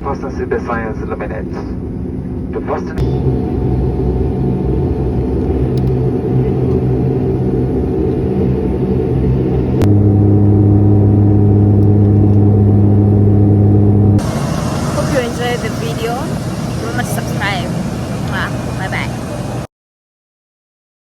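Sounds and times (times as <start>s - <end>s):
airliner engine drone in cabin: 0.0s - 19.7s
low steady hum: 0.0s - 19.7s.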